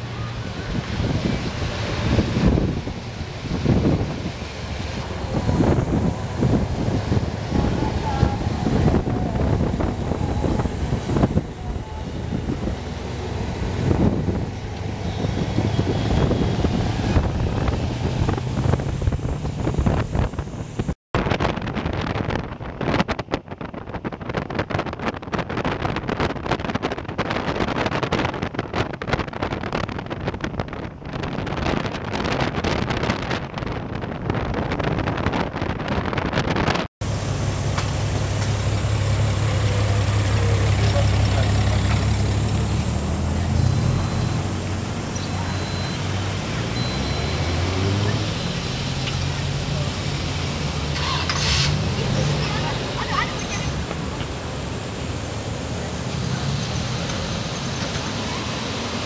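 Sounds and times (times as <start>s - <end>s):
engine and road noise: 0.0s - 59.0s
wind rushing over microphone: 0.0s - 59.0s.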